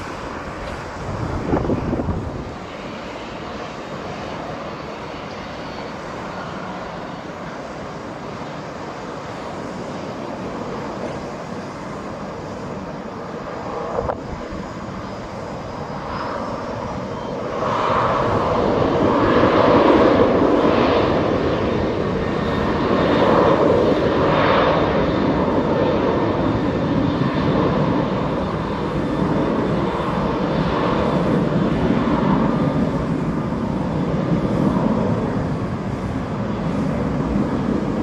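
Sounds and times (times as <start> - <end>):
wind buffeting microphone: 0.0 - 5.2, 9.6 - 38.0
jet engines taxiing: 0.0 - 38.0.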